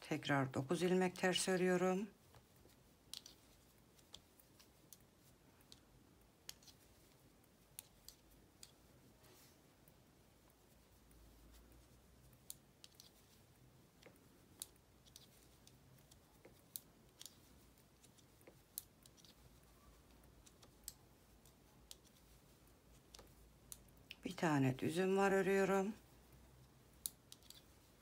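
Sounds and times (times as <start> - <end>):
knitting needles clicking: 0.7 - 28.0.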